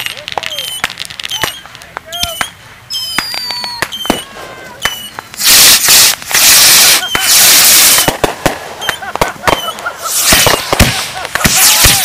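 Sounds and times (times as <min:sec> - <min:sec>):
fireworks bangs: 0:00.0 - 0:12.0
fireworks hissing: 0:00.0 - 0:12.0
fireworks whistles: 0:00.0 - 0:12.0.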